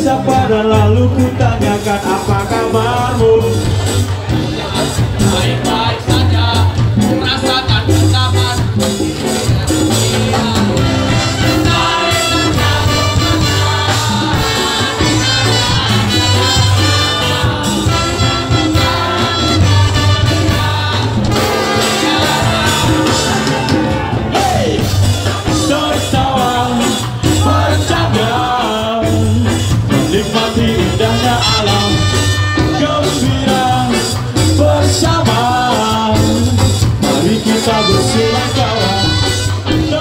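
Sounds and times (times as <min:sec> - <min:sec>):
ska band playing live: 0:00.0 - 0:40.0.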